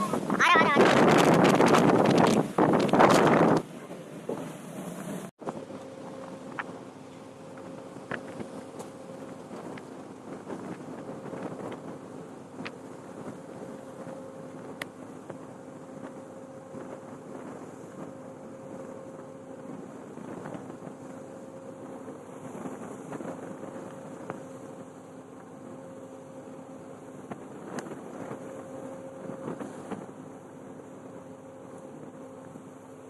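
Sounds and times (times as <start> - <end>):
low machinery hum: 0.0 - 33.0
sea noise: 0.0 - 33.0
wind: 0.0 - 33.0.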